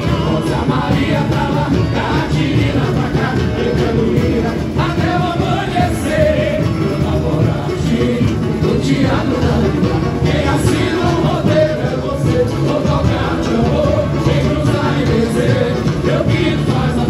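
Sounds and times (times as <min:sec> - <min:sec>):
samba drums playing: 0:00.0 - 0:17.0
voices singing: 0:00.0 - 0:17.0.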